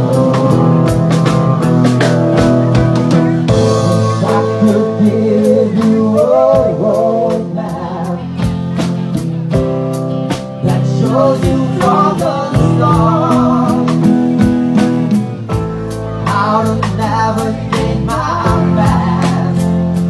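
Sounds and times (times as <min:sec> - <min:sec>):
acoustic guitar: 0:00.0 - 0:20.0
drum kit: 0:00.0 - 0:20.0.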